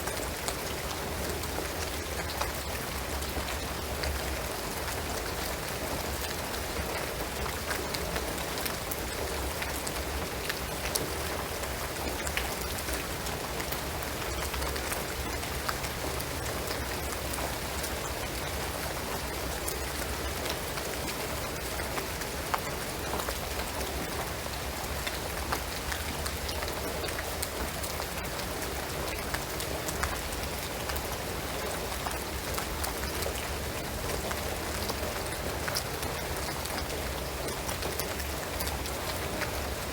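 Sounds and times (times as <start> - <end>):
rain drops ticking: 0.0 - 39.9
rain on a roof: 0.0 - 39.9.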